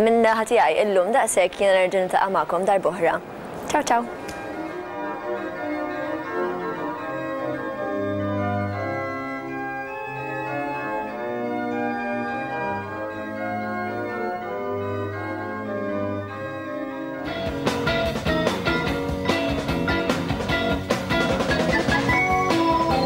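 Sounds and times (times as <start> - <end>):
organ chords: 4.1 - 23.0.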